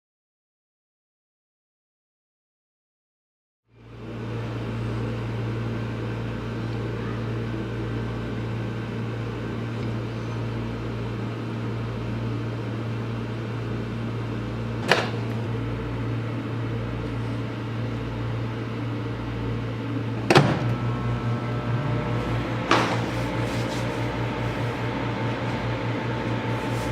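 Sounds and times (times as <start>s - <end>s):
microwave oven humming: 3.7s - 26.9s
rapid pulsing hum: 3.9s - 26.9s.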